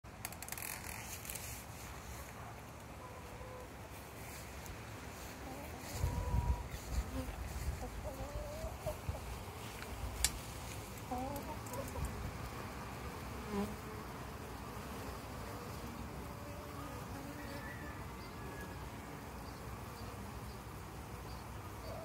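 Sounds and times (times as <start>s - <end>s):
bees buzzing: 2.8s - 22.0s.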